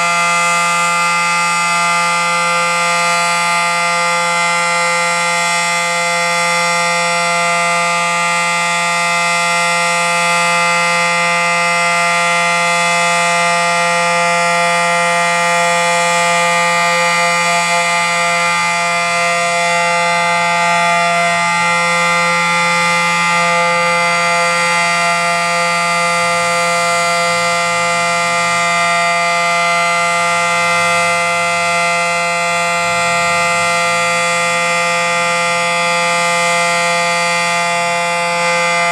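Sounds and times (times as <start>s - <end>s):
civil defense siren steady tone: 0.0s - 38.9s.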